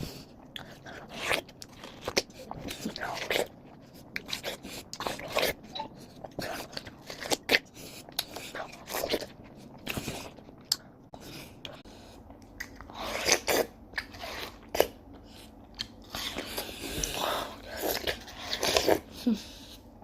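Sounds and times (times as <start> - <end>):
person chewing watermelon: 0.0 - 20.0.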